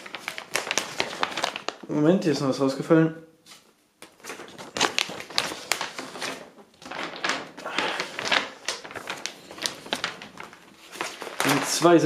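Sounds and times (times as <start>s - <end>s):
glossy paper crinkling: 0.0s - 1.9s, 3.5s - 12.0s.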